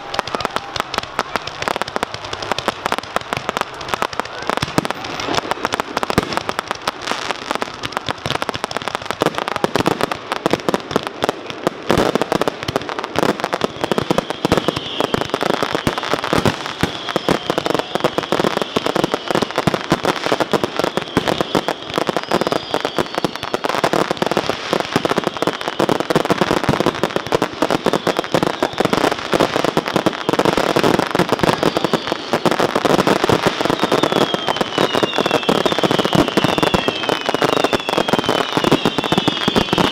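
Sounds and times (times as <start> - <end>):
firework whistles: 0.0 - 10.8, 11.9 - 39.9
fireworks bangs and crackle: 0.0 - 39.9.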